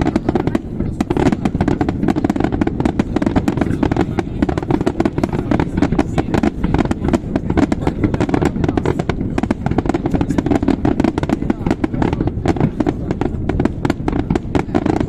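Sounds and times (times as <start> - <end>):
fireworks bursting with bangs and crackles: 0.0 - 15.0.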